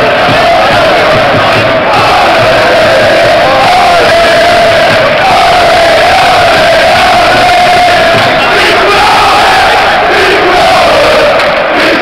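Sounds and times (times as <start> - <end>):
stadium crowd chanting: 0.0 - 12.0.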